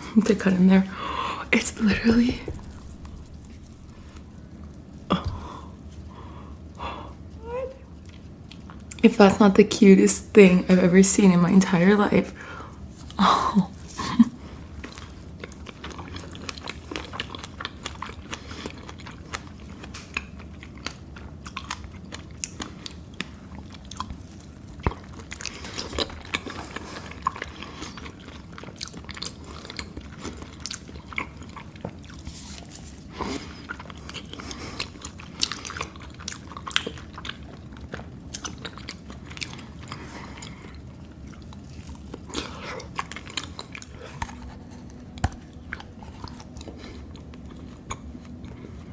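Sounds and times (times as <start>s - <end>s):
chewing and crunching food: 0.0s - 7.3s, 7.9s - 9.4s, 12.8s - 48.9s.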